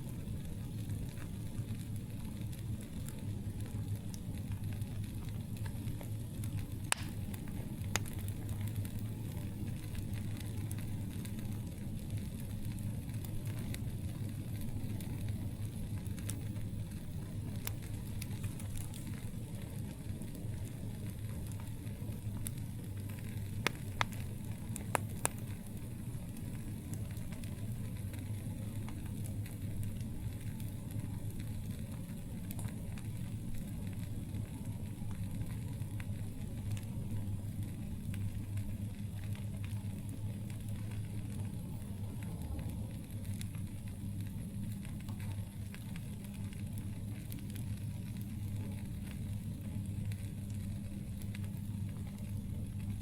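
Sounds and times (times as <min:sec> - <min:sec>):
campfire low rumble: 0:00.0 - 0:53.0
fire crackling pops: 0:00.0 - 0:53.0.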